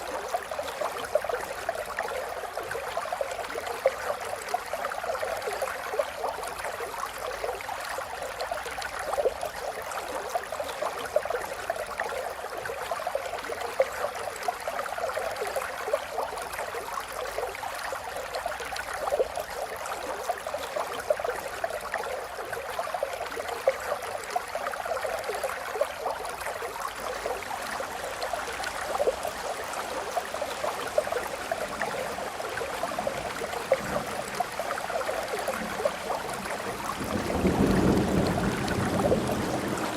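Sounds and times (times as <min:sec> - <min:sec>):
stream trickling and gurgling: 0:00.0 - 0:39.9.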